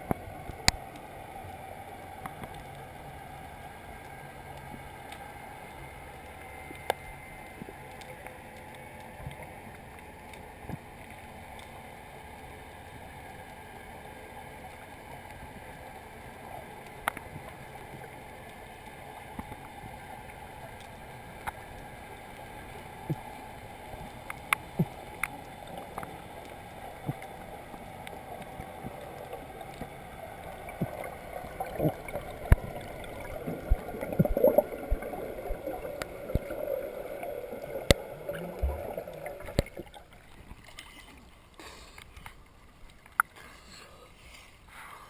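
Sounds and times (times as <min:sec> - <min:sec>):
muffled underwater noise: 0:00.1 - 0:40.0.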